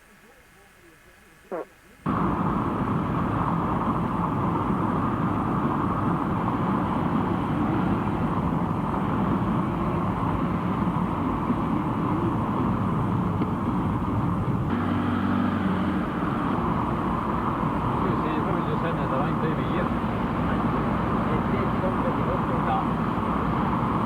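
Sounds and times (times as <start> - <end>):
vehicle engine and road noise: 2.1 - 24.0.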